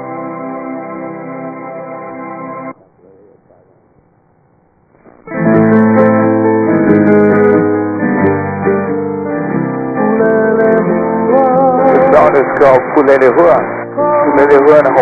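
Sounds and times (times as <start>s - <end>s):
piano chords: 0.0s - 2.8s, 5.2s - 15.0s.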